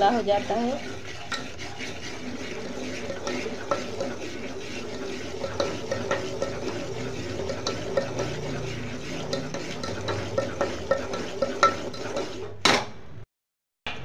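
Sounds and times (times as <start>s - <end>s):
metal spoon scraping steel pot: 0.0s - 12.6s.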